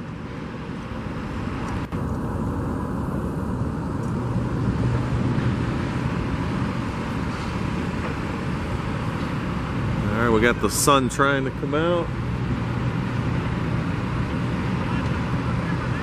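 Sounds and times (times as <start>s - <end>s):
low rumble of distant engines: 0.0s - 16.0s.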